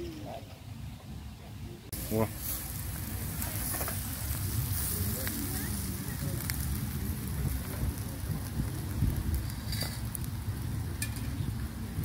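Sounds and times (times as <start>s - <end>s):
wind rumble on microphone: 0.0s - 12.0s
chicken sizzling on grill: 1.9s - 12.0s
sharp crackles: 1.9s - 12.0s.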